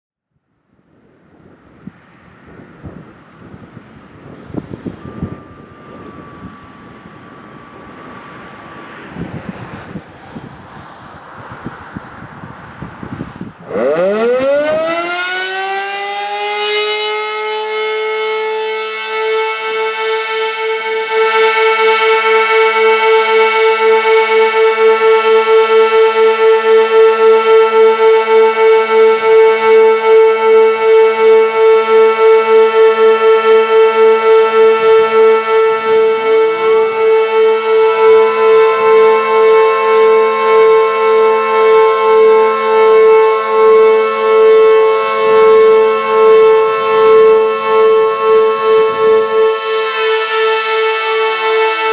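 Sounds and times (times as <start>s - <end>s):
tornado siren: 0.3s - 51.9s
second siren winding up: 1.6s - 11.9s, 13.6s - 51.9s.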